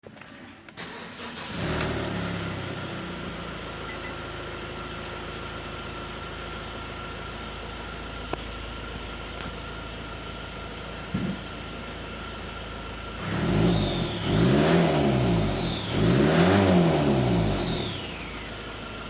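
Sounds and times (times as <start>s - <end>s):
car engine starting and idling: 0.0s - 19.0s.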